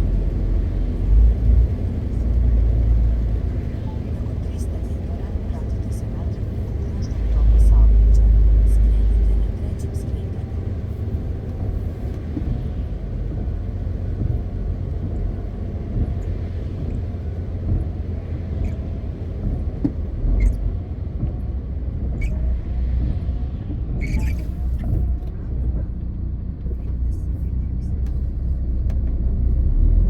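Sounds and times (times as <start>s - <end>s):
truck engine and tyres rumbling: 0.0s - 30.0s.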